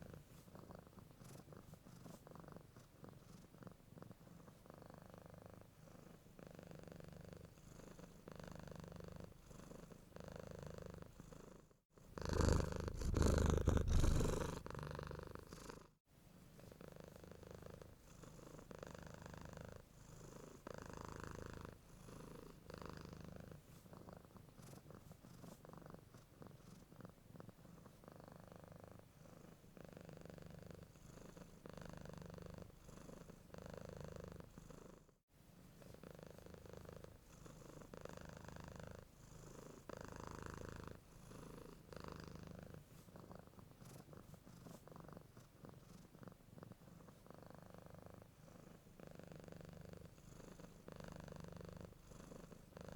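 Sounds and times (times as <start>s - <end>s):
cat purring: 0.0s - 16.0s, 16.6s - 52.9s.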